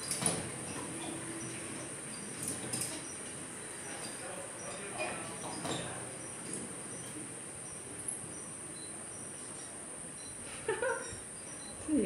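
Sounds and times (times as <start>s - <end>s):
insects chirring: 1.4s - 12.0s.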